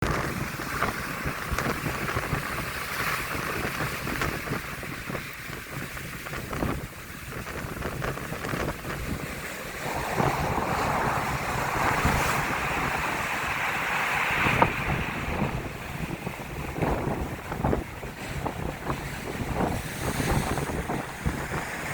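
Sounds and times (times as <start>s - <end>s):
waves breaking on shore: 0.0s - 21.9s
wind buffeting microphone: 0.0s - 21.9s.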